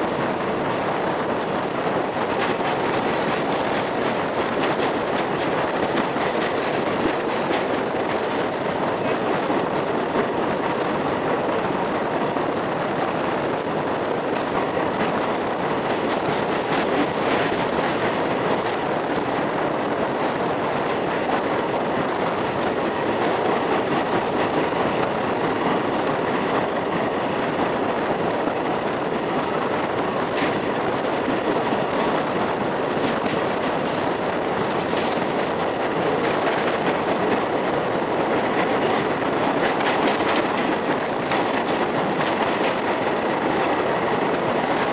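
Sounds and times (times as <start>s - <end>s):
train wheels on rails: 0.0s - 44.9s.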